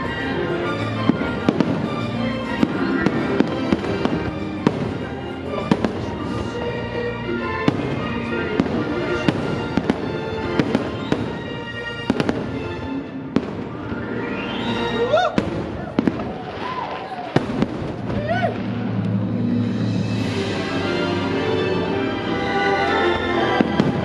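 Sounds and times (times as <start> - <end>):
fireworks bursting: 0.0 - 20.7, 23.4 - 24.0.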